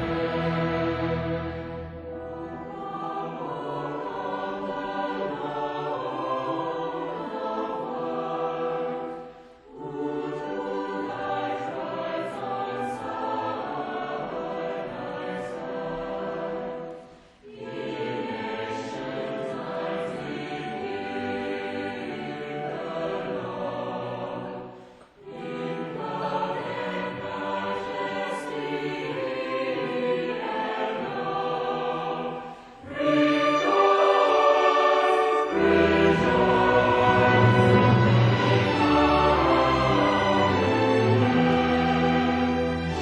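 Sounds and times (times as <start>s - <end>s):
choir singing: 0.0s - 43.0s
string orchestra: 0.0s - 43.0s.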